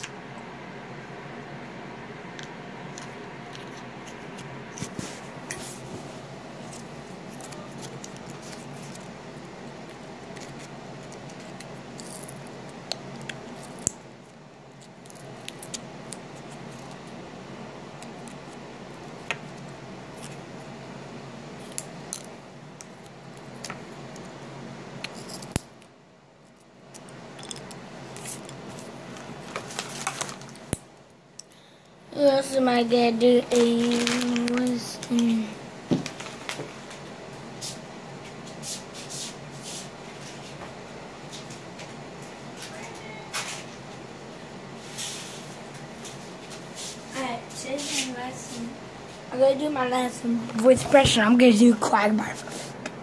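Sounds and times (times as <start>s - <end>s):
steady background hum: 0.0s - 53.0s.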